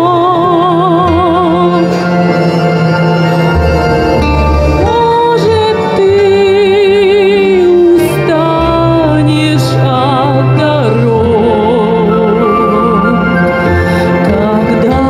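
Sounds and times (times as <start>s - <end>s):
woman singing with vibrato: 0.0s - 2.8s, 4.3s - 15.0s
instrumental accompaniment: 0.0s - 15.0s.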